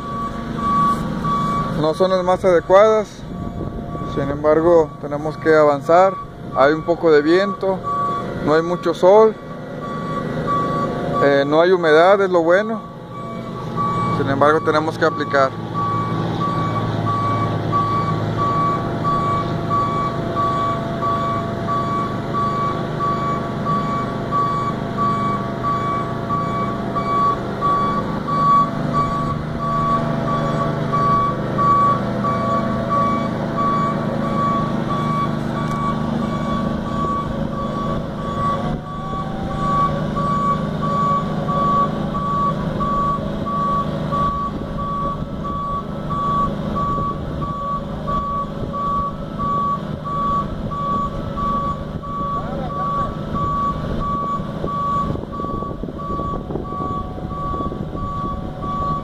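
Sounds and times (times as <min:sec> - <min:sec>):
motion alarm beeping: 0:00.0 - 0:09.1, 0:09.8 - 0:59.0
engine droning: 0:00.0 - 0:59.0.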